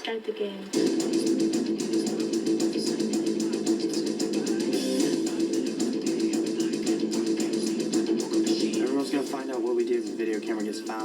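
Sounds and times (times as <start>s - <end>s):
drums: 0.7s - 11.0s.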